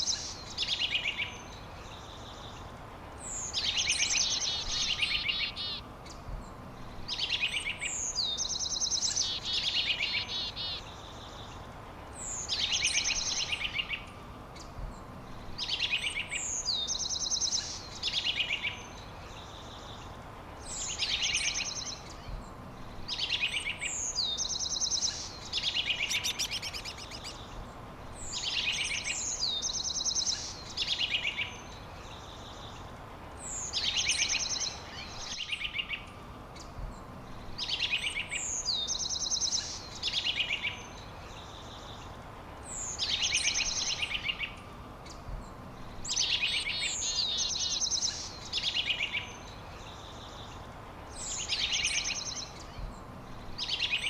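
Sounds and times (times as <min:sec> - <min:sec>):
faint background hiss: 0:00.0 - 0:54.0
songbird singing with trill: 0:00.0 - 0:54.0.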